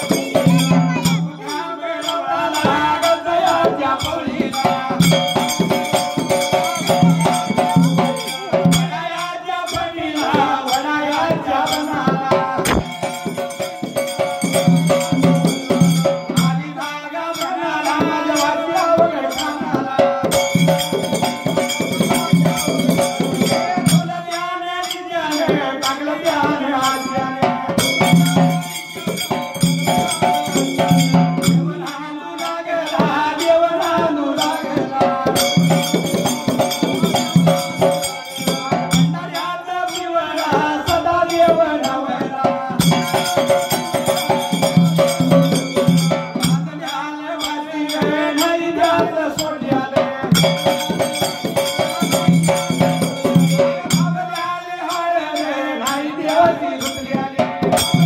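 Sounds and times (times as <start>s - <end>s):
dhol drum beating: 0.0s - 58.0s
jingling hand percussion: 0.0s - 58.0s.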